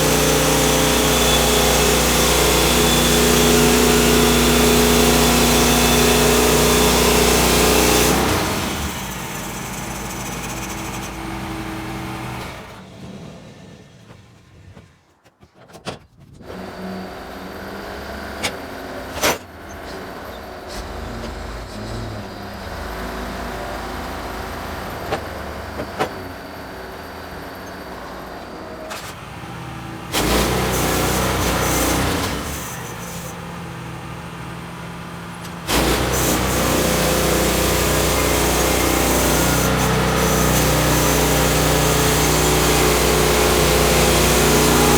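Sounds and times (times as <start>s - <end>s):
small engine running: 0.0s - 14.7s, 16.4s - 44.9s.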